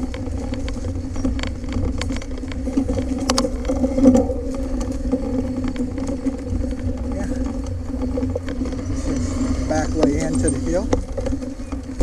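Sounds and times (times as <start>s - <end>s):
bike tyres rumbling on dirt: 0.0s - 12.0s
clicks and rattles from bumps: 0.0s - 12.0s.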